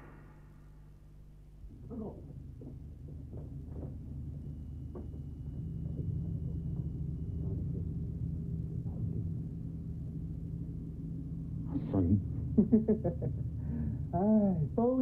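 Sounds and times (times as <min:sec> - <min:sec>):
low droning background score: 0:00.0 - 0:15.0.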